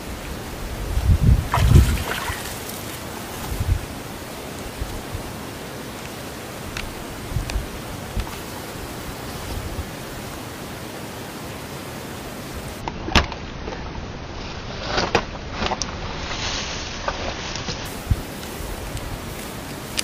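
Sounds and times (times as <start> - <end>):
rustling in grass: 0.0 - 10.6, 14.3 - 20.0
steady outdoor hiss: 0.0 - 20.0.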